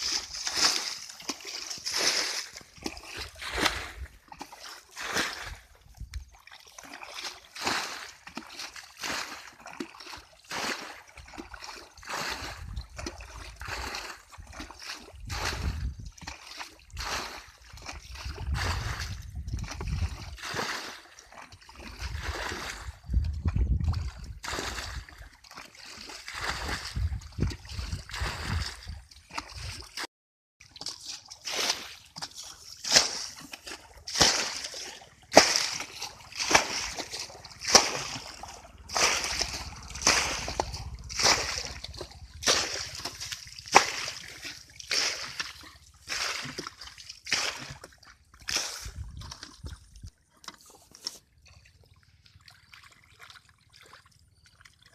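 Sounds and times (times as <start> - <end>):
water splashing and sloshing: 0.0 - 54.9.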